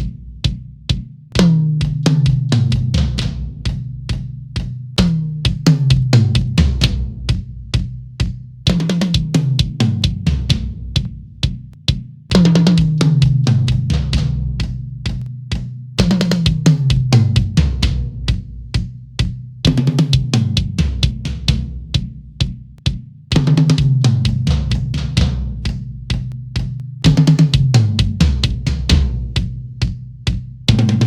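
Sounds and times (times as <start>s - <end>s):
tom drum fills: 0.0s - 31.0s.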